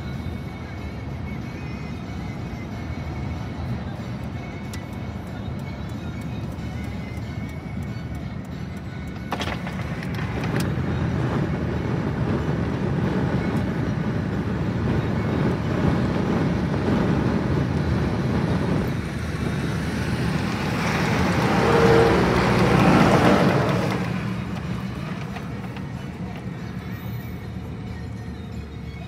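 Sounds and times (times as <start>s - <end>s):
road and engine noise inside car: 0.0s - 29.0s
truck passing alongside: 0.0s - 29.0s.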